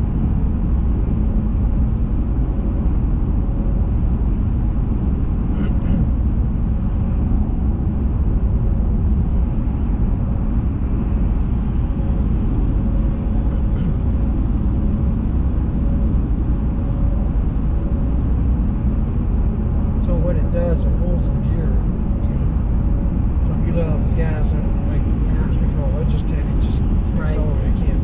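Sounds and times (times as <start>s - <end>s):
faint steady whine: 0.0s - 28.0s
vehicle engine and road rumble: 0.0s - 28.0s.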